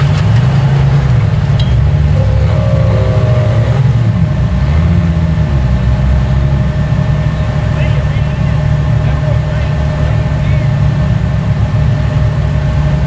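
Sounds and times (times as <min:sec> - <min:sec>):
deep engine revving: 0:00.0 - 0:13.0.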